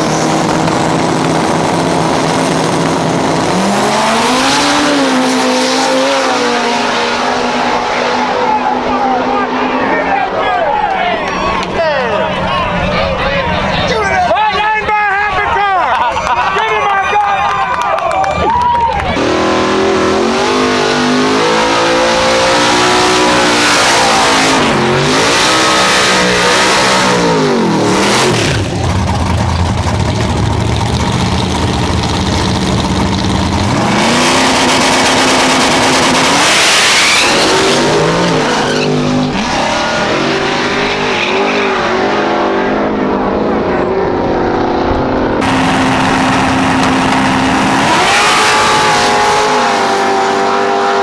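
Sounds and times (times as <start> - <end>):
drag race car engines revving: 0.0 - 16.5, 19.0 - 51.0.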